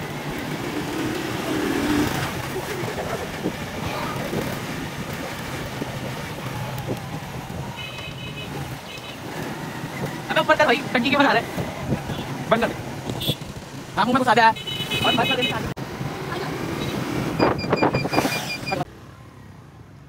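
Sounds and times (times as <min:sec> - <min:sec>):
wind noise: 0:00.0 - 0:13.8, 0:15.9 - 0:18.8
road noise: 0:00.0 - 0:20.0.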